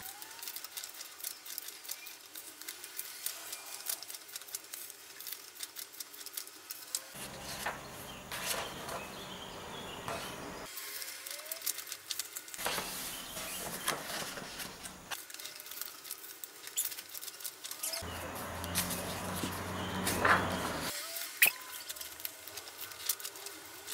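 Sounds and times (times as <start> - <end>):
book pages turning: 0.0 - 23.9.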